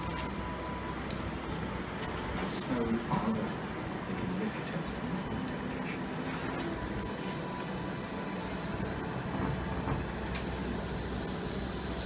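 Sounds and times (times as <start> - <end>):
low background hum and rumble: 0.0 - 12.0.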